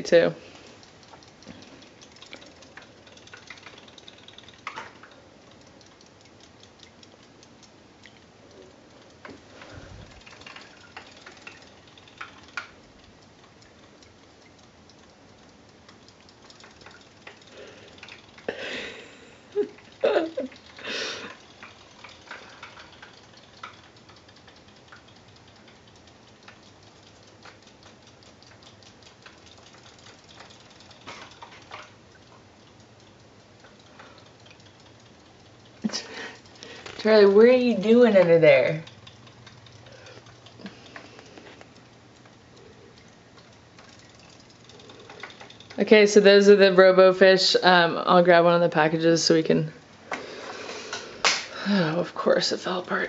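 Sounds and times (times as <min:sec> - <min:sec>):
toy motor ticking: 0:00.0 - 0:53.0.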